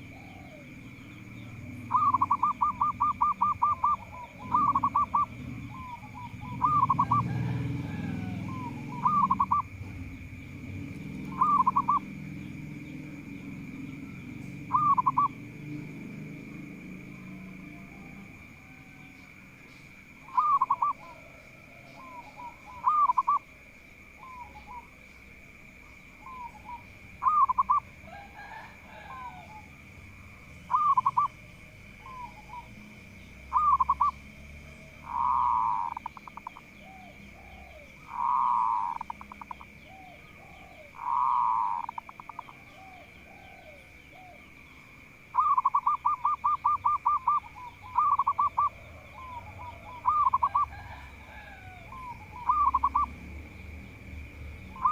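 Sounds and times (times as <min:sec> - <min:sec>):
dove cooing: 0:00.0 - 0:53.8, 0:54.6 - 0:54.9.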